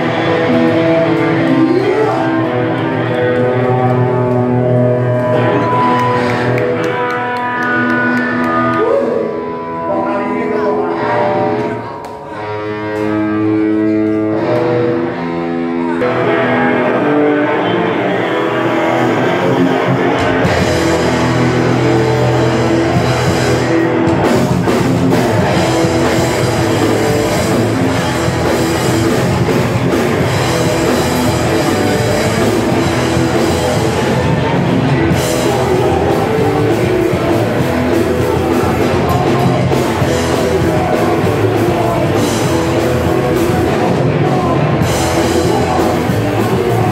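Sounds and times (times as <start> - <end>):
live hardcore band: 0.0 - 46.9.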